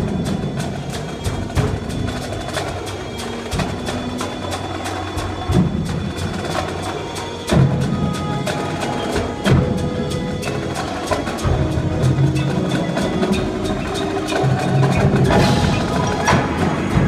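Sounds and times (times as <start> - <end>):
mallet keyboard tones: 0.0 - 17.0
marching drums rapid strikes: 0.0 - 17.0.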